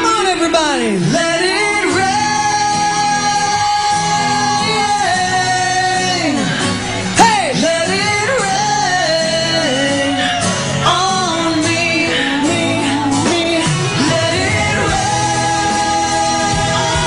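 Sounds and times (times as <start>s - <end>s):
man singing a pop ballad: 0.0s - 17.0s
musical accompaniment: 0.0s - 17.0s.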